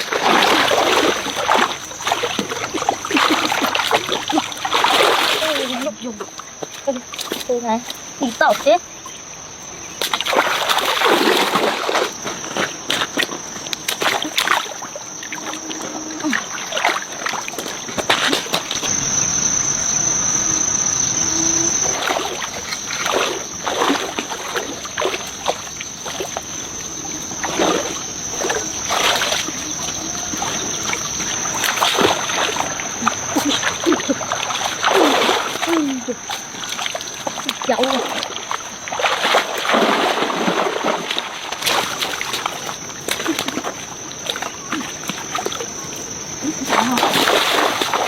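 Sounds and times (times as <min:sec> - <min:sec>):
splashy noises: 0:00.0 - 0:08.8, 0:09.9 - 0:48.0
high-pitched insect drone: 0:00.0 - 0:48.0.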